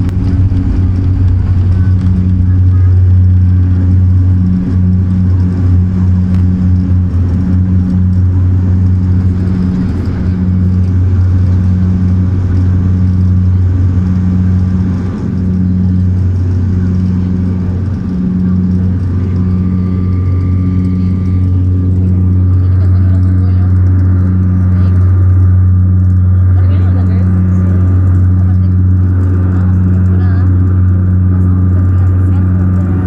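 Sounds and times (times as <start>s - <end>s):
airliner propellers droning: 0.0s - 33.0s.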